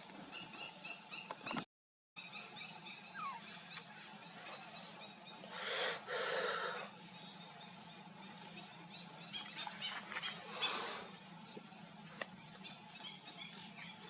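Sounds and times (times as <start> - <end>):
birds chirping: 0.0 - 1.6, 2.2 - 14.0
steady low hum: 2.2 - 14.0.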